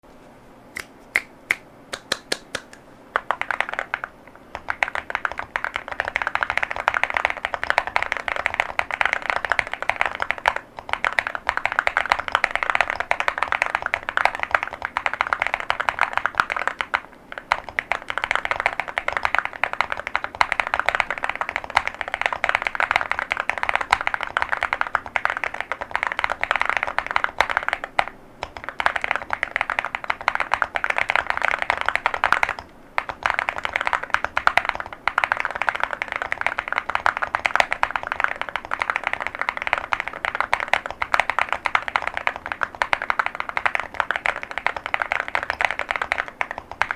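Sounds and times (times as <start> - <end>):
mechanical keyboard typing: 2.1 - 46.9.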